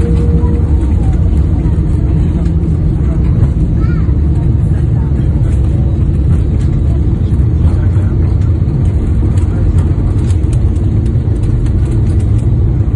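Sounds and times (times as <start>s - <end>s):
airliner engine and wheel rumble: 0.0s - 12.9s.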